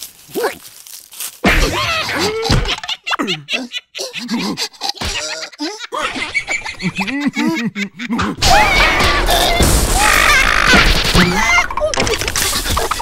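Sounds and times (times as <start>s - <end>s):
cartoon gibberish voices: 1.4s - 6.2s, 7.0s - 13.0s
cartoon laughter: 1.5s - 13.0s.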